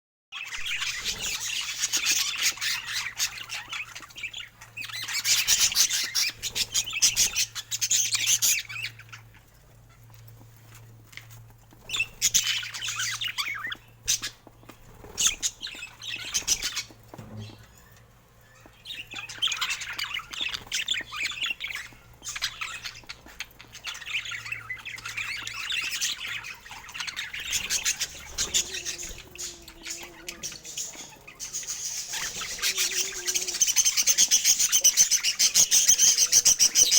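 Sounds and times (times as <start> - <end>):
budgerigars chattering and squawking: 0.4 - 36.9.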